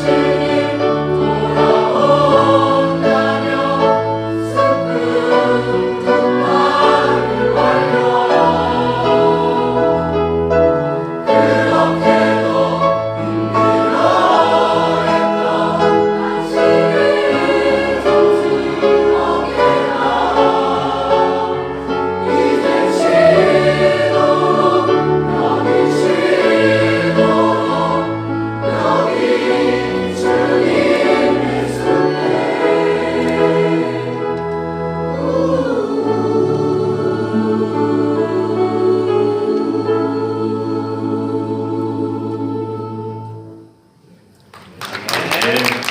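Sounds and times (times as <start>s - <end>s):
choir singing: 0.0s - 44.0s.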